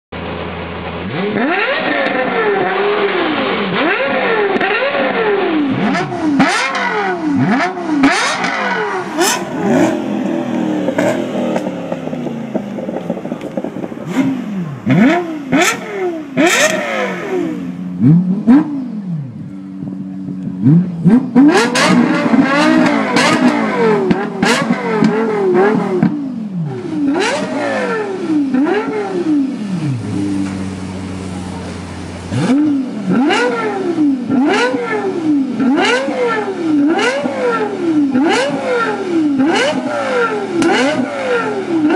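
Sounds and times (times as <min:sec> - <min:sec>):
car engine revving: 0:00.2 - 0:41.9
exhaust cracks: 0:00.2 - 0:41.9.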